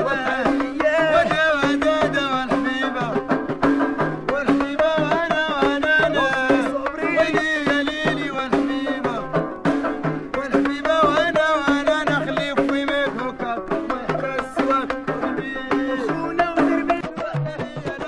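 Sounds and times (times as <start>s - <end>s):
hand drum strokes: 0.0s - 18.0s.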